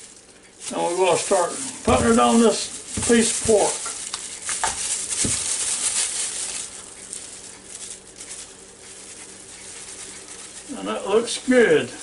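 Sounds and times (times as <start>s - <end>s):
shaker jar rustle: 0.0s - 11.9s
spice granules pattering: 0.0s - 12.0s.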